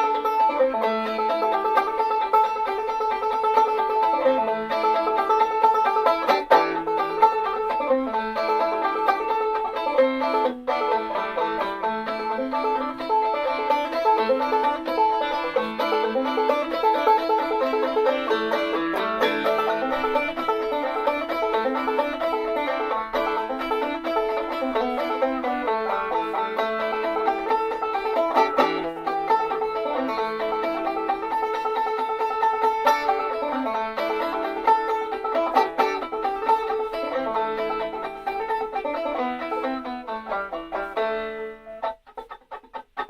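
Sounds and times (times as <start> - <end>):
banjo playing: 0.0 - 43.0.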